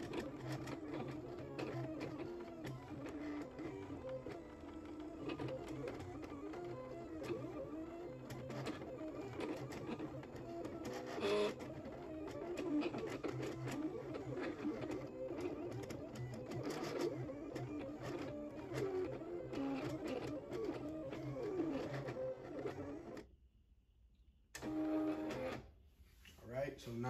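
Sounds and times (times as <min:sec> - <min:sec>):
cutting machine motors whirring: 0:00.0 - 0:23.2, 0:24.6 - 0:25.6.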